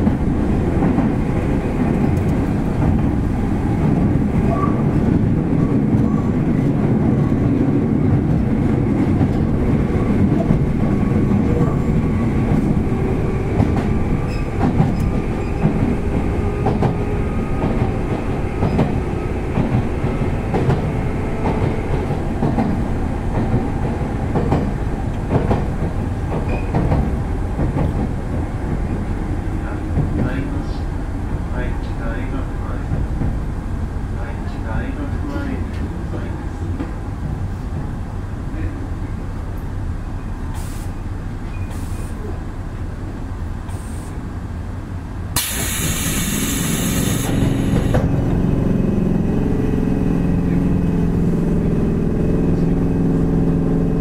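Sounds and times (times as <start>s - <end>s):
rail joint clicks: 0.0s - 32.0s, 34.5s - 38.1s, 39.1s - 44.3s, 45.3s - 48.5s
train wheels rumbling on rail: 0.0s - 54.0s.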